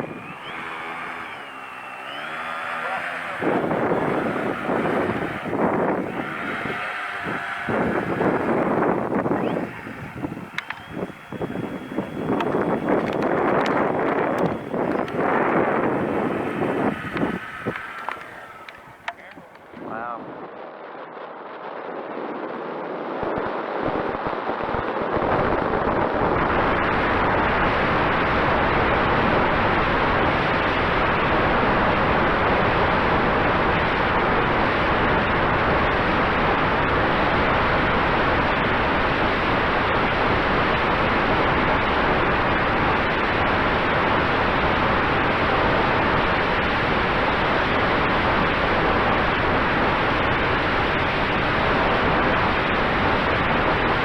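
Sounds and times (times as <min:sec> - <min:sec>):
strong wind on microphone: 0:00.0 - 0:54.0.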